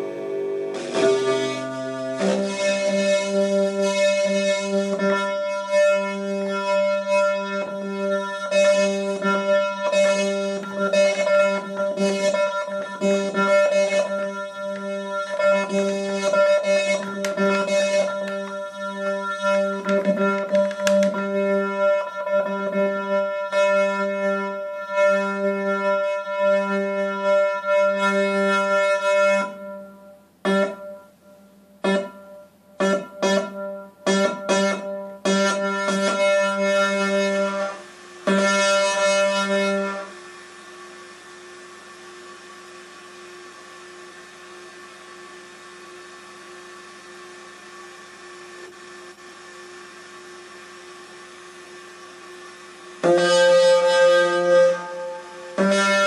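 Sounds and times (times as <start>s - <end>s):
instrument note through effects pedal: 0.0s - 56.0s.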